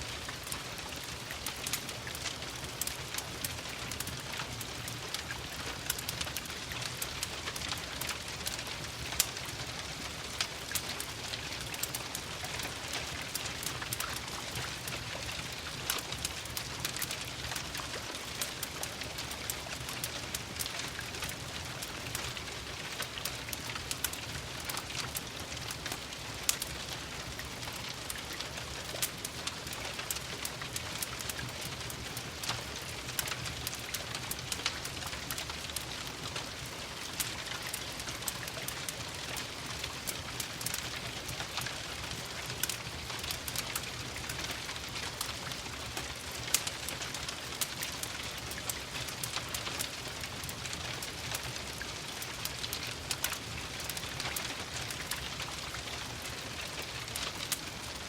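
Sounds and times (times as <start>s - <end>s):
steady rain falling: 0.0s - 58.0s
wood fire crackling: 0.1s - 58.0s.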